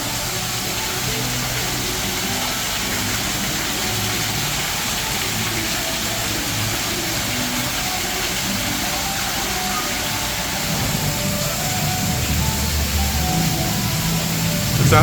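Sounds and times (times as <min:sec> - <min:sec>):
rushing water features: 0:00.0 - 0:15.0.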